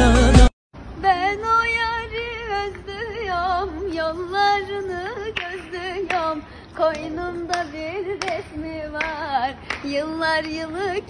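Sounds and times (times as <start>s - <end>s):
woman singing folk song: 1.0s - 11.0s.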